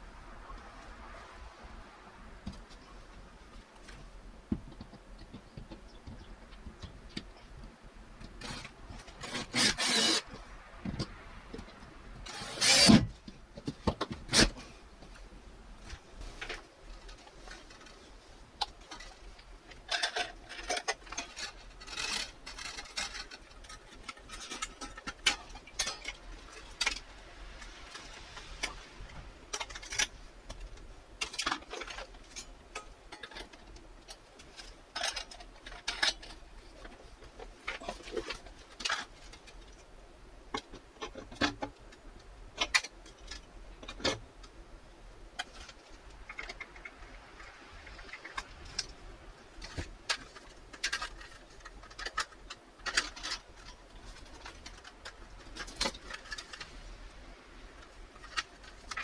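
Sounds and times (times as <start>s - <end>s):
tools and parts clicking and rustling: 3.5s - 15.2s, 15.8s - 44.6s, 45.4s - 57.2s, 57.8s - 59.0s.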